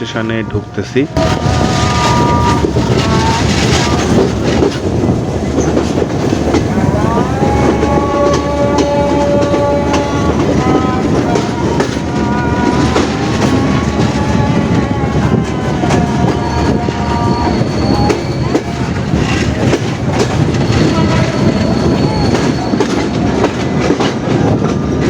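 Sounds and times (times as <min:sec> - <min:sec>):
train clattering over track: 0:00.0 - 0:25.0.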